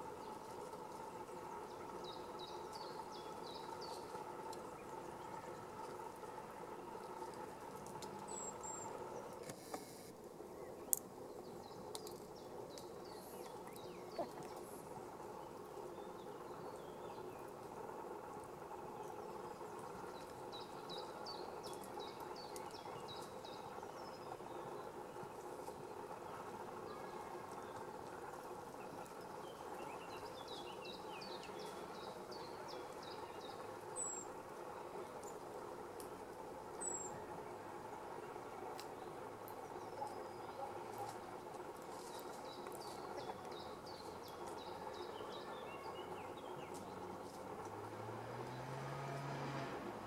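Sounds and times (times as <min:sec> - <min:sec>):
small birds chirping: 0:00.0 - 0:48.8
low background hum: 0:00.0 - 0:50.0.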